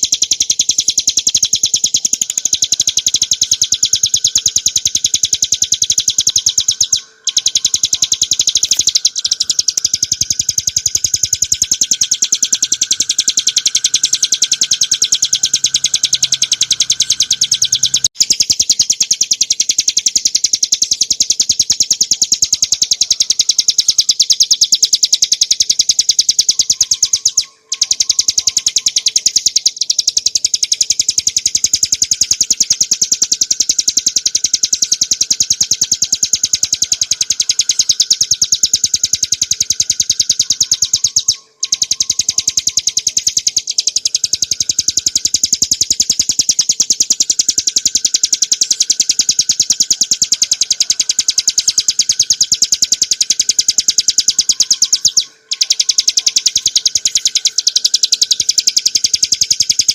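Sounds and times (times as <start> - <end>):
bird fast chattering song: 0.0 - 59.9.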